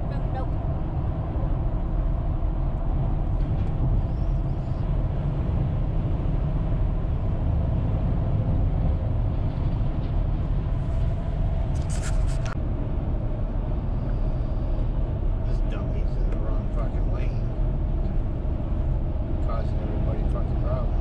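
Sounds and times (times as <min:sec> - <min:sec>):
vehicle driving inside cabin: 0:00.0 - 0:21.0.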